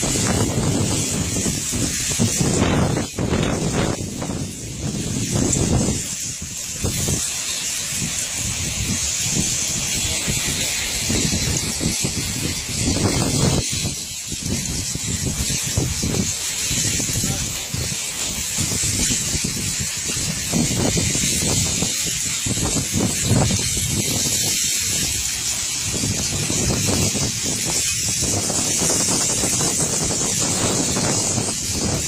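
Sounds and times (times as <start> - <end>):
icy sea waves washing in: 0.0 - 32.0.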